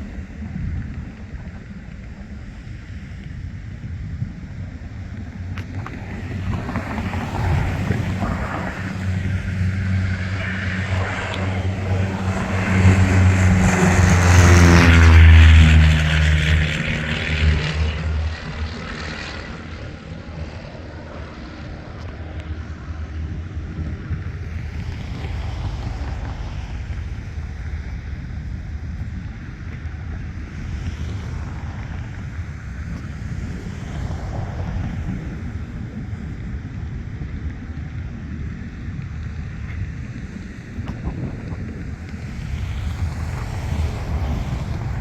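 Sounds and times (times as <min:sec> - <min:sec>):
propeller airplane flying overhead: 0:00.0 - 0:45.0.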